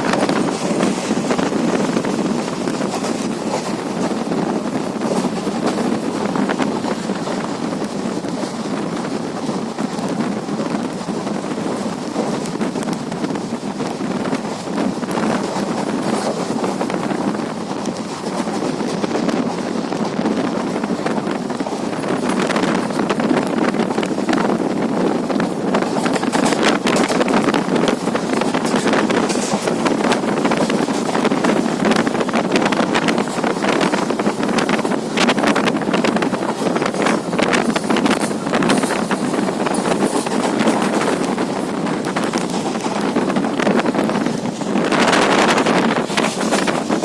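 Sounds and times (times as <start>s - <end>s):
train rushing at speed: 0.0s - 47.0s.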